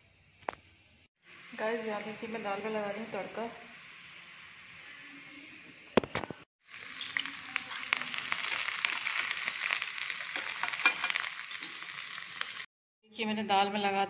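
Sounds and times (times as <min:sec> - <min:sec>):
spices sizzling in hot oil: 0:00.4 - 0:12.7.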